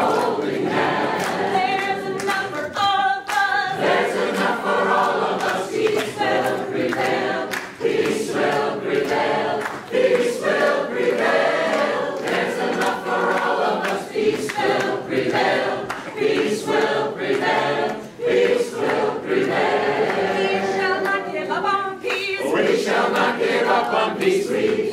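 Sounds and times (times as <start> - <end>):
choir singing a cappella: 0.0 - 24.9.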